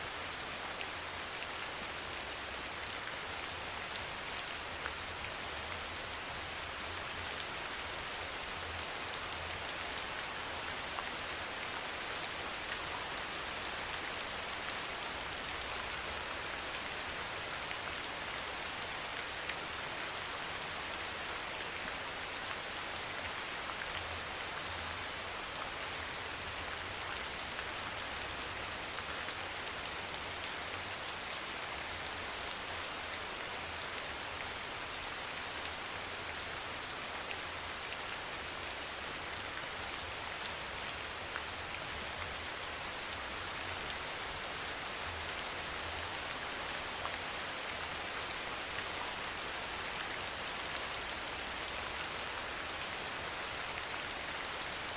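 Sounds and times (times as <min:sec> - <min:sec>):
soft rain falling: 0:00.0 - 0:54.9.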